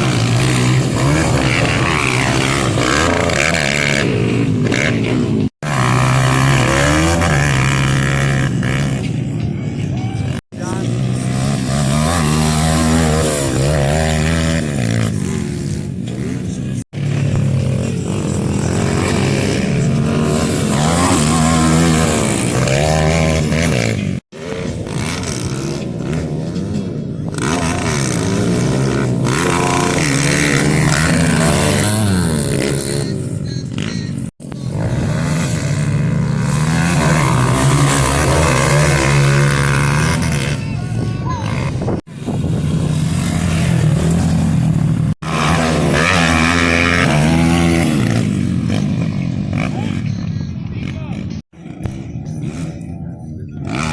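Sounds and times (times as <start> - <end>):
pit bike engines revving: 0.0 - 53.9.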